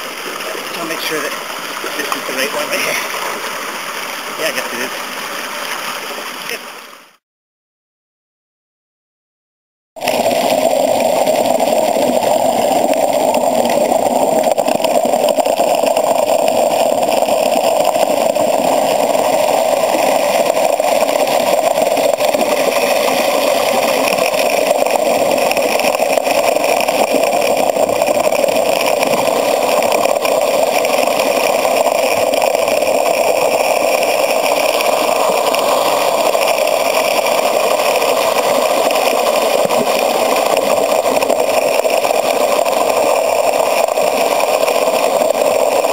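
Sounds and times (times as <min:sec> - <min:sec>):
water rushing out of a pipe: 0:00.0 - 0:07.2, 0:10.0 - 0:45.9.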